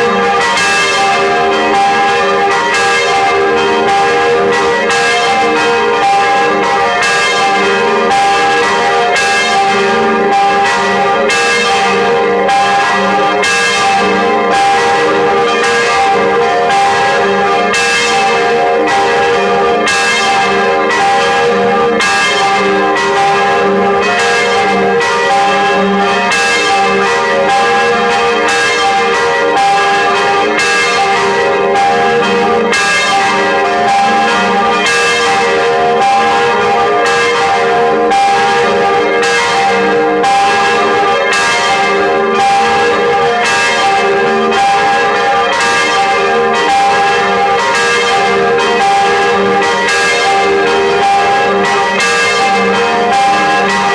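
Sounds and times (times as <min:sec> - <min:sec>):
church bells ringing: 0:00.0 - 0:53.9.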